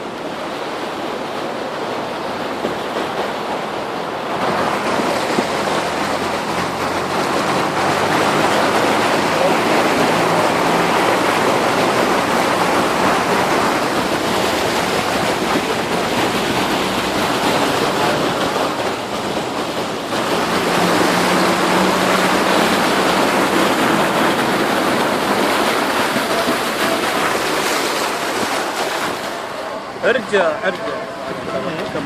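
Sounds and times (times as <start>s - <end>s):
heavy rain and floodwater rushing: 0.0s - 32.0s.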